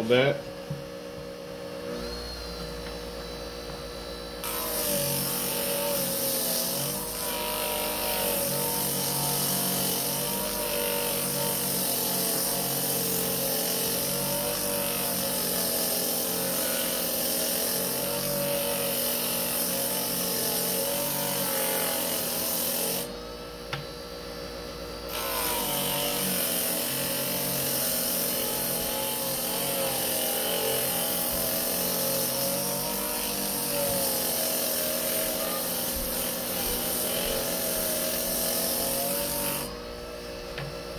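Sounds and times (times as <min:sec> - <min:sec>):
electric motor whine: 0:00.0 - 0:40.9
sanding wheel rasping on leather: 0:04.4 - 0:23.1, 0:25.1 - 0:39.8.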